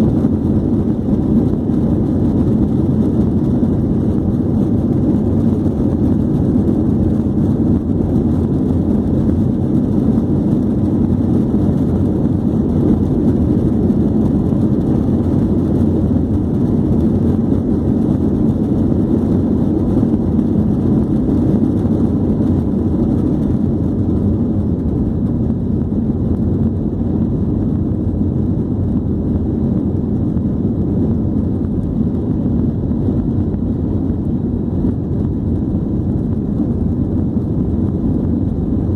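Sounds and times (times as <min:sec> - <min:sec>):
jet airliner taking off: 0:00.0 - 0:38.9.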